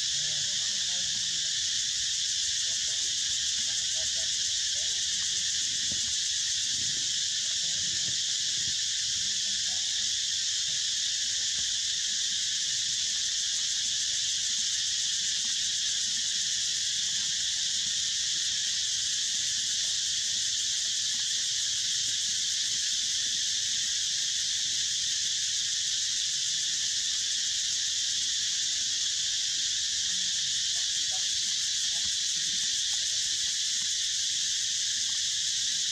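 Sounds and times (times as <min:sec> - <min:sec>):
insect chorus hissing: 0:00.0 - 0:35.9.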